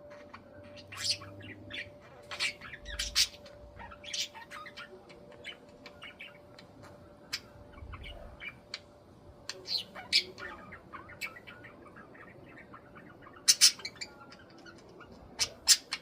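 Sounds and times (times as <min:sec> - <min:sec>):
budgies chirping and squawking: 0:00.0 - 0:08.8, 0:09.5 - 0:16.0.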